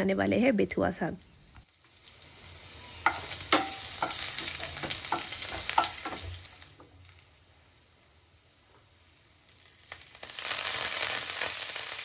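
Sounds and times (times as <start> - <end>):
garlic sizzling in hot oil: 0.4 - 12.0.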